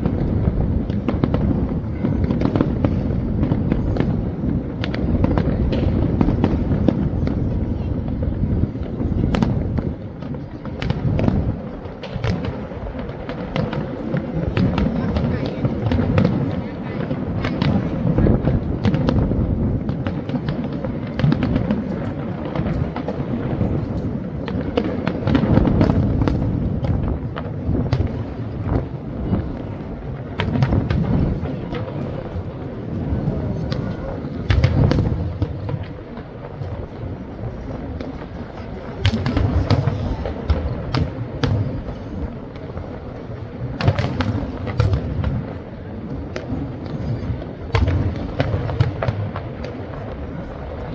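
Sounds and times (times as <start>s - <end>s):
fireworks booms and rumble: 0.0s - 50.9s
fireworks popping and crackling: 0.0s - 50.9s.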